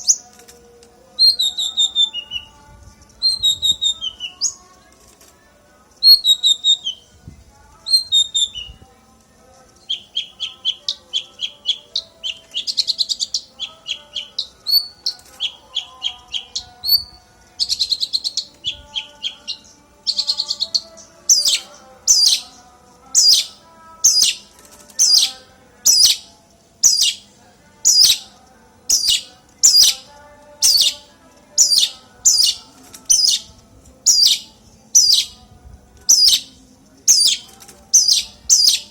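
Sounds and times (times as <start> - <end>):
songbird chirps and trills: 0.0 - 38.9.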